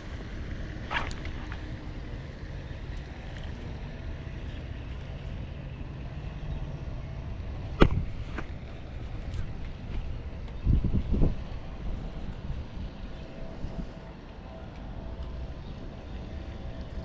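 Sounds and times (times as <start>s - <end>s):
wind buffeting microphone: 0.0s - 5.8s, 7.1s - 17.0s.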